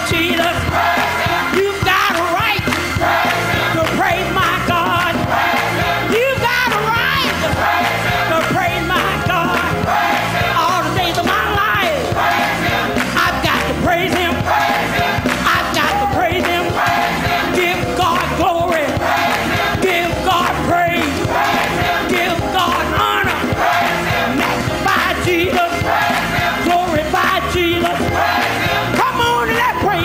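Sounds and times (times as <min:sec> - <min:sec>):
congregation singing: 0:00.0 - 0:30.0
instrumental backing: 0:00.0 - 0:30.0.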